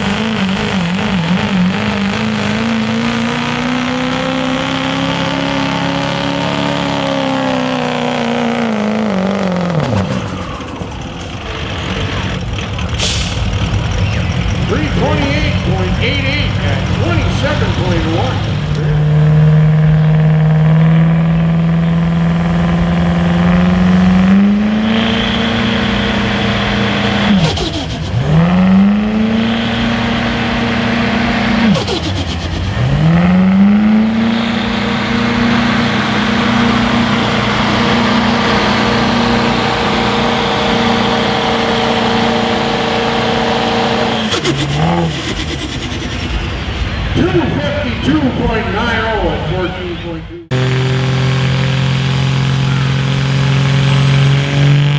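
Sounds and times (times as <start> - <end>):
diesel engine at high revs: 0.0 - 54.9.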